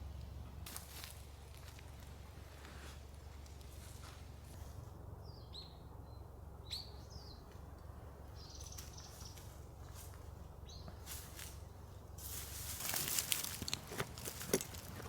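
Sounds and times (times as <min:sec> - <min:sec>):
wild birds chirping faintly: 0:00.0 - 0:15.0.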